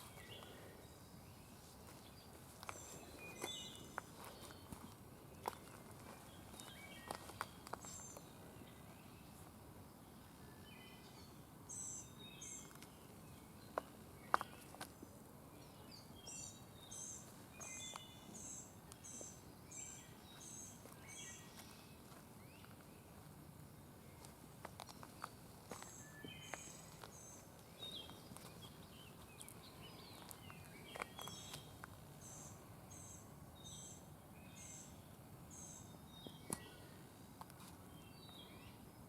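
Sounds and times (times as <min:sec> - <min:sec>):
bird chirping: 0:00.0 - 0:14.8, 0:15.6 - 0:23.2, 0:24.9 - 0:37.0
faint outdoor ambience: 0:00.0 - 0:39.0.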